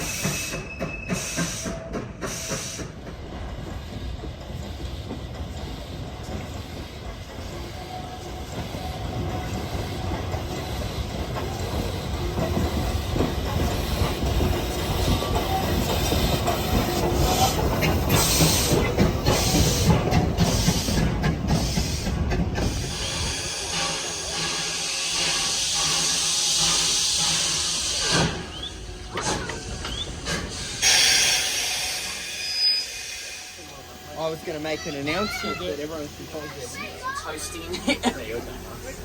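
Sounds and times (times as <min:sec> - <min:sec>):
train wheels clattering on rails: 0:00.0 - 0:32.4.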